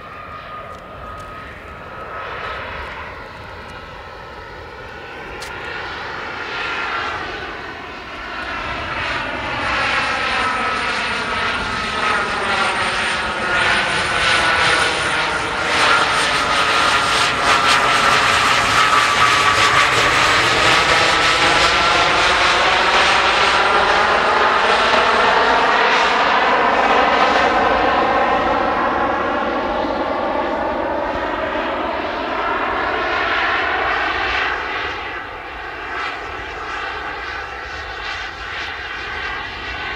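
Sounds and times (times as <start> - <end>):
model jet engines flying overhead: 0.0 - 39.9.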